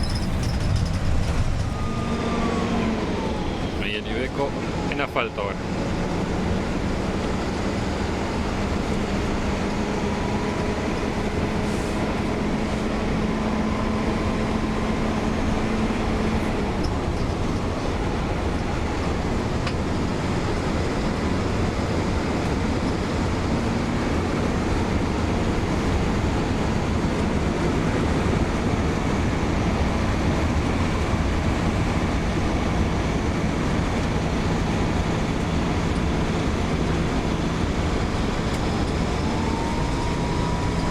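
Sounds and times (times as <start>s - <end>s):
bus engine and road noise: 0.0s - 40.9s.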